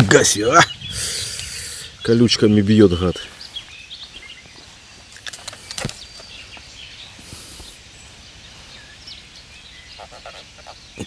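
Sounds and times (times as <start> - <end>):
small birds chirping: 0.0 - 11.0
steady background hiss: 0.0 - 11.0.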